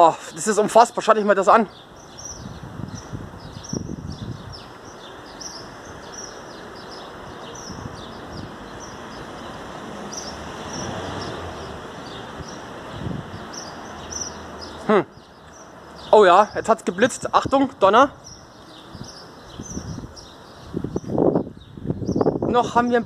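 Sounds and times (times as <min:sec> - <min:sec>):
outdoor background hiss: 0:00.0 - 0:23.0
small birds chirping: 0:00.0 - 0:23.0.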